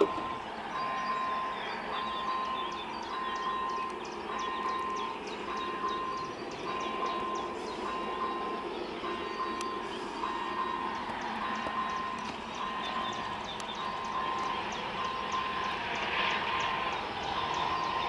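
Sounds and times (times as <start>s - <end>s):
beeping tone: 0.0s - 18.0s
distant steam train rumbling: 0.0s - 18.0s.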